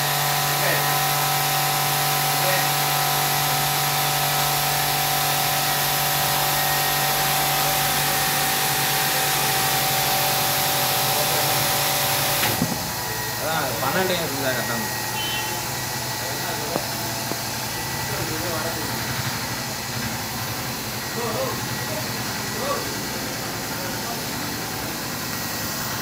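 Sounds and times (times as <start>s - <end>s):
vacuum pump hissing and humming: 0.0s - 26.0s.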